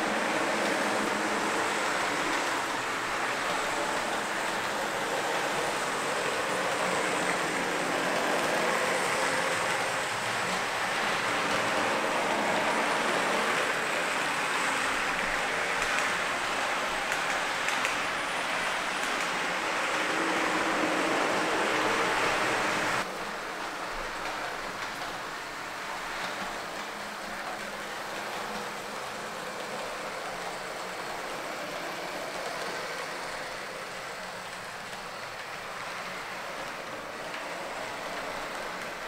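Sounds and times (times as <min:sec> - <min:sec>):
model train wheels rumbling: 0:00.0 - 0:39.0.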